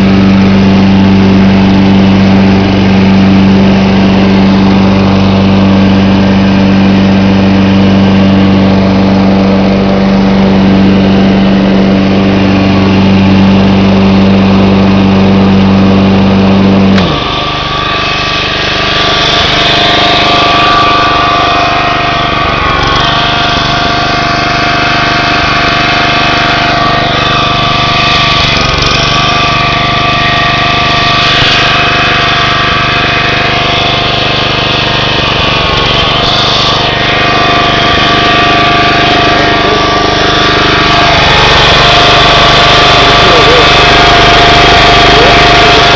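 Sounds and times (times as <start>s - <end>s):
lawn mower engine running: 0.0s - 45.9s.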